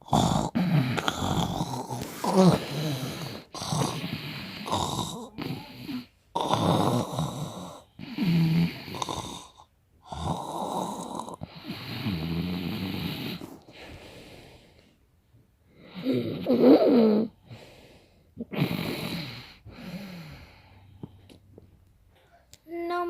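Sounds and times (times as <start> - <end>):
person snoring: 0.0 - 14.6, 15.8 - 17.6, 18.4 - 20.8.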